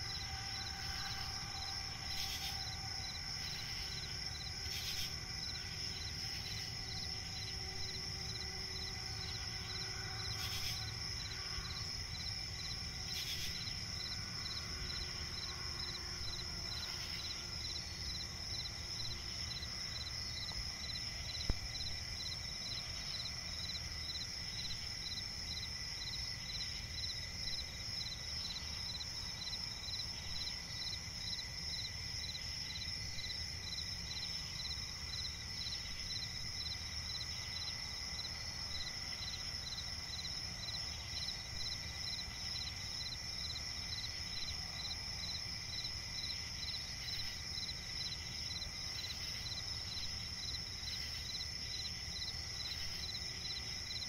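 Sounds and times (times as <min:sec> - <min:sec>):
cricket continuous trill: 0:00.0 - 0:54.0
cricket pulsing chirps: 0:00.0 - 0:54.0.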